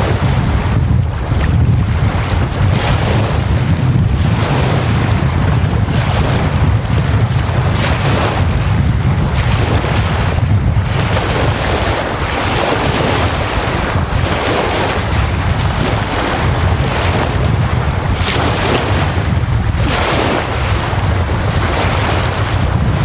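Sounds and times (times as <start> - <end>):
lake waves washing up beach: 0.0 - 23.0
wind rumble on microphone: 0.0 - 23.0.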